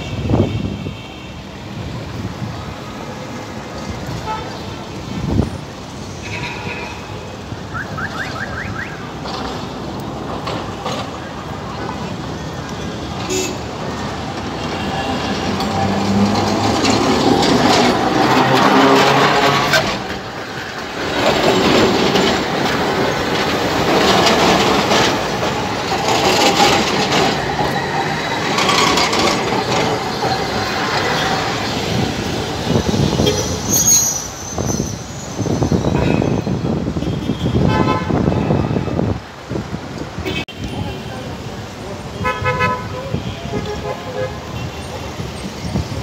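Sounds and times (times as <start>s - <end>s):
tram wheels on street rails: 0.0s - 46.0s.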